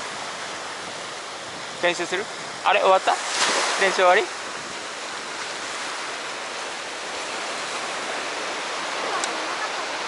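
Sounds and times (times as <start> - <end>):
sea surf washing: 0.0 - 10.0.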